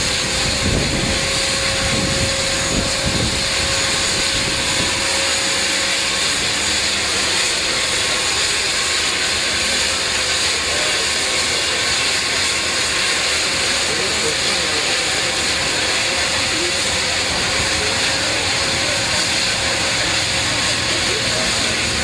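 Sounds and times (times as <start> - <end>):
seaplane engine and propeller: 0.0 - 22.0.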